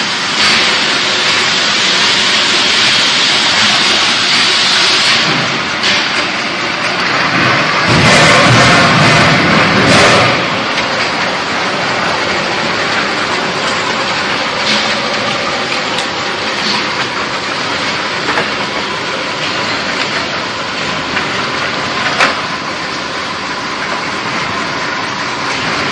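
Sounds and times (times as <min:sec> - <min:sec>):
debarker machine rattling clatter: 0:05.1 - 0:25.9.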